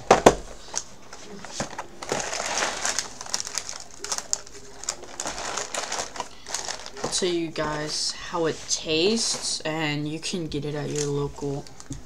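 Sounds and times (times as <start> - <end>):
plastic sleeve crinkling: 0.2 - 9.7, 10.8 - 12.0.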